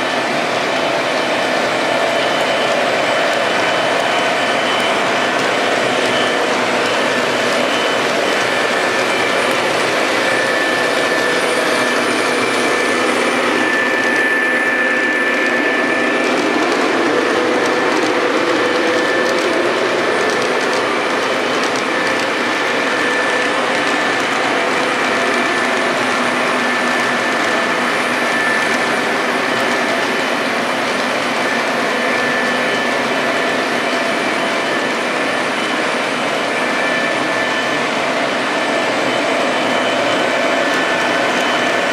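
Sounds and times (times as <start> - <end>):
model trains rumbling on track: 0.0 - 41.9
thin steady whine: 0.0 - 41.9.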